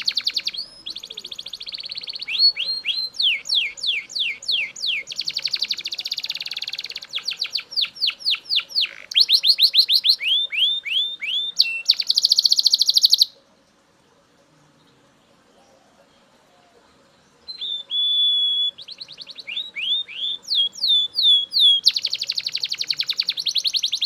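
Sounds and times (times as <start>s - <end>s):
canary singing trills: 0.0s - 13.5s, 15.4s - 24.0s.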